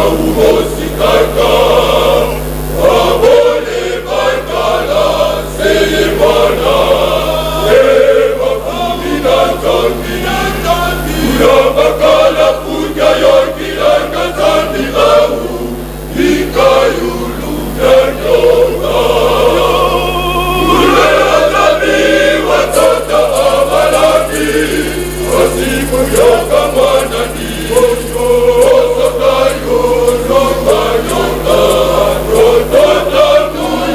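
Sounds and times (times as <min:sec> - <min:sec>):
choir singing gospel song: 0:00.0 - 0:33.9.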